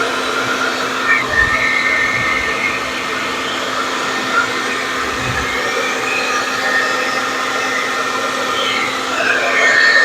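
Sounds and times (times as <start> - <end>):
hair dryer running: 0.0 - 10.0.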